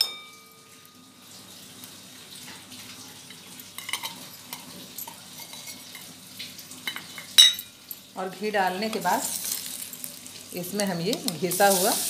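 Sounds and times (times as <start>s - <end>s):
ghee sizzling: 0.6s - 12.0s.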